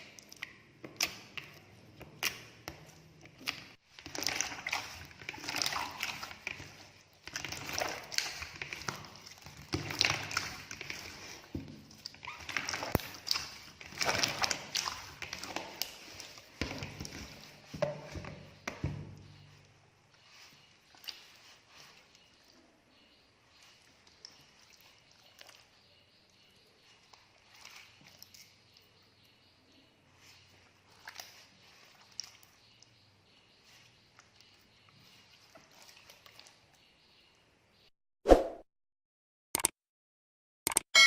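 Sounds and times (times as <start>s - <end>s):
slime squishing and dribbling: 0.0s - 37.8s.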